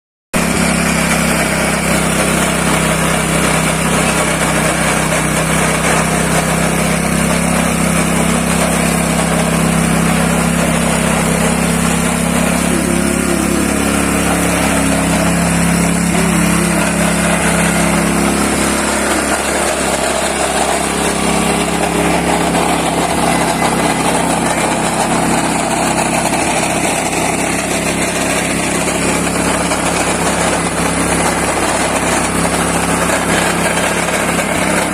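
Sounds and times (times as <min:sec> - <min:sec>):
coffee pulping machine engine: 0:00.4 - 0:34.9
machine rattling: 0:00.4 - 0:34.9.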